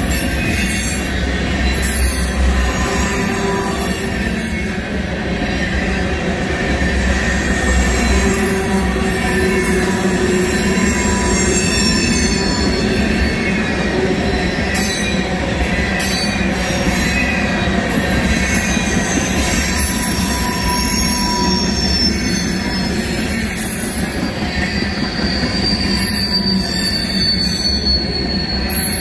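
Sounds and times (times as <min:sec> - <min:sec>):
train wheels rumbling on rails: 0:00.0 - 0:29.0
high-pitched wheel squeals: 0:00.1 - 0:29.0.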